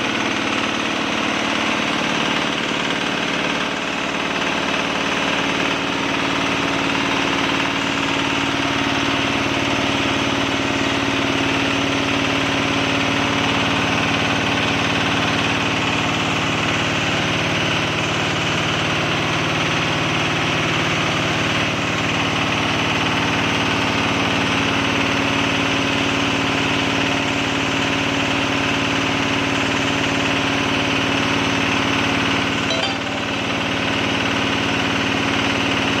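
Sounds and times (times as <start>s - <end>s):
diesel engine driving air compressor: 0.0s - 32.3s.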